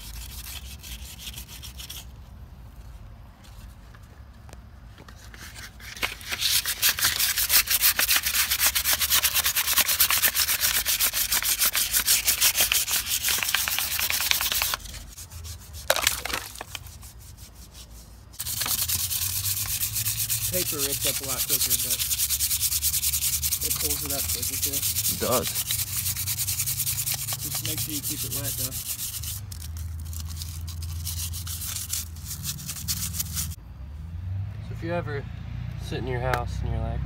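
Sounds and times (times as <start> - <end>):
sandpaper scraping metal rim: 0.0 - 2.1, 5.2 - 33.6.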